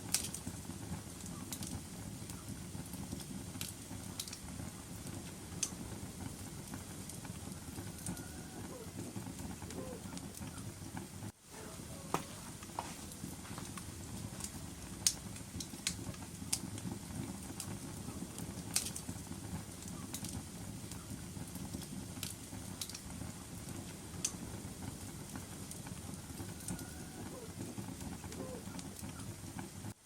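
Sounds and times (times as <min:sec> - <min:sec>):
fire crackles and pops: 0:00.0 - 0:30.0
low rumble of flames: 0:00.0 - 0:30.0.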